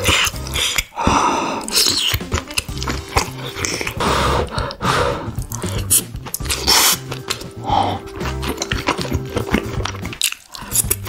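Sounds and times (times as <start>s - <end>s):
background music with bass line: 0.0s - 11.0s
chewing and slurping: 0.0s - 11.0s.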